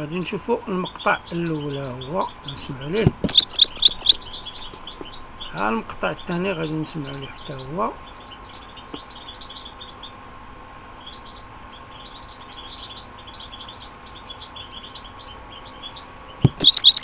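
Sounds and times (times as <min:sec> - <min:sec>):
songbird chirps: 0:00.0 - 0:17.0
fast repeated bird song: 0:00.7 - 0:17.0.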